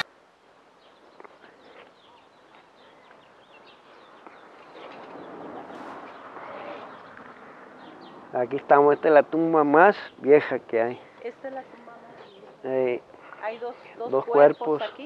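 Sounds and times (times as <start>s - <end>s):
small birds chirping: 0.0s - 15.0s
soft outdoor rustle: 0.0s - 15.0s.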